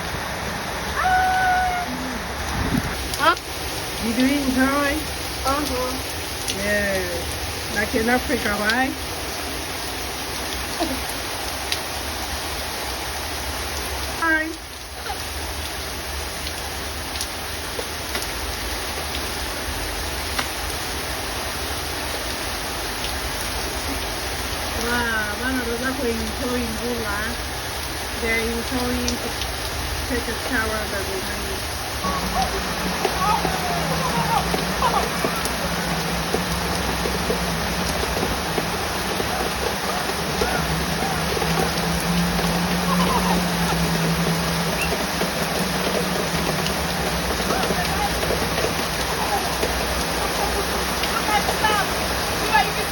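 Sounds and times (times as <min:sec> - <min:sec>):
heavy rain falling: 0:00.0 - 0:52.9
sharp raindrop hits: 0:00.0 - 0:52.9.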